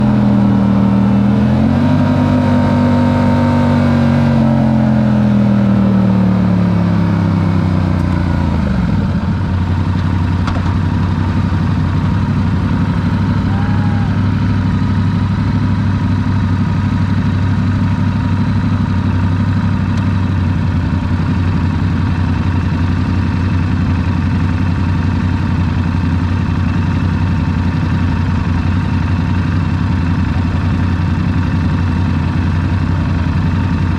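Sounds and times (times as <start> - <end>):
motorcycle engine idling: 5.2 - 33.9.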